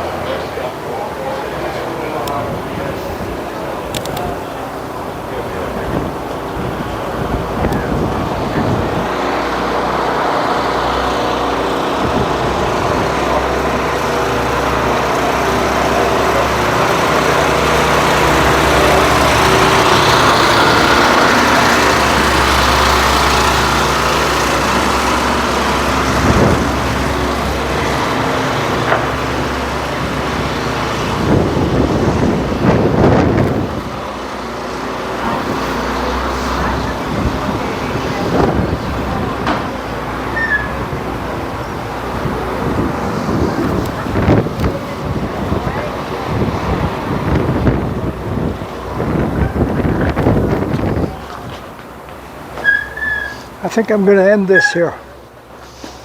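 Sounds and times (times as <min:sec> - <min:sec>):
motor vehicle humming: 0:00.0 - 0:56.0
wind buffeting microphone: 0:02.3 - 0:52.0.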